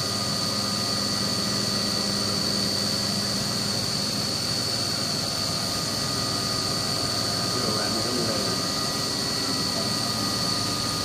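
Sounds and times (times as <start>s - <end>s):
low machine hum: 0.0s - 11.0s
milling machine spindle whine: 0.0s - 11.0s.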